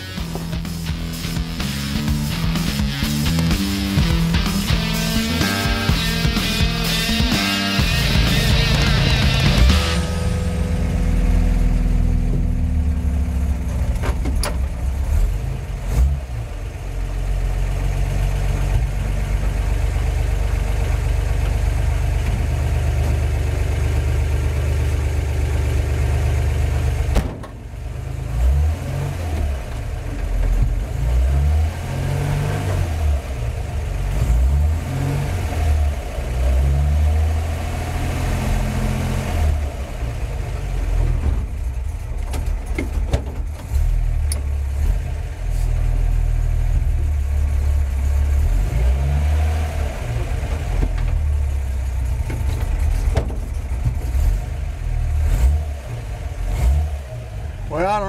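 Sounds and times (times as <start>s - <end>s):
pickup truck engine running: 0.0s - 58.0s.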